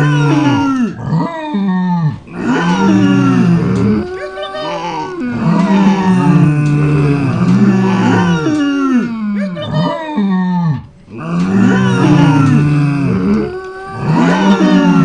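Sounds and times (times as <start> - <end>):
deep animal calls: 0.0 - 15.0.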